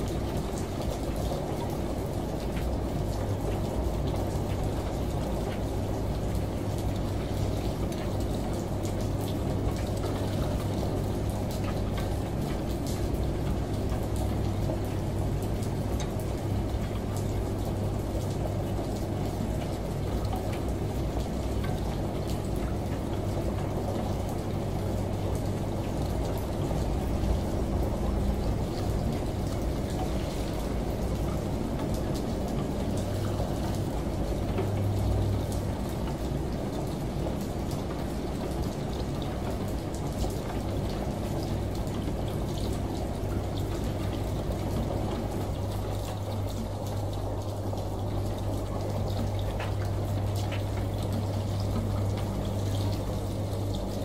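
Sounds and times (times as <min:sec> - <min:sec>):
rain: 0:00.0 - 0:54.0
shower water pouring: 0:00.0 - 0:54.0
washing machine humming: 0:00.0 - 0:54.0.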